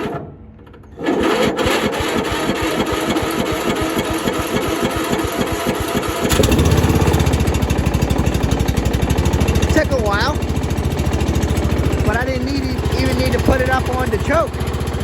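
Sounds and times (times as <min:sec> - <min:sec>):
mower engine cranking and starting: 0:00.0 - 0:15.0.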